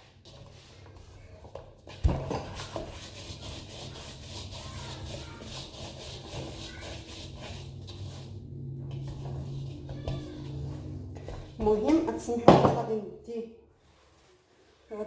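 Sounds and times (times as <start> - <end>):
hands kneading bread dough: 0.0 - 12.4, 13.7 - 15.0.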